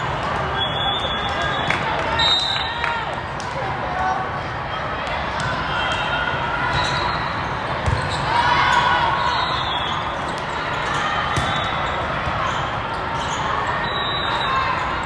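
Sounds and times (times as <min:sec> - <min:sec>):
crowd chatter: 0:00.0 - 0:15.0.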